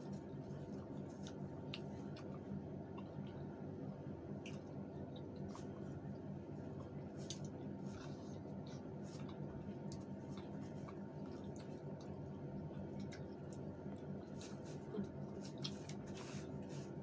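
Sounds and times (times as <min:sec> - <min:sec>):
steady low hum: 0:00.0 - 0:17.0
wet chewing and lip-smacking: 0:00.2 - 0:03.6, 0:04.3 - 0:16.1.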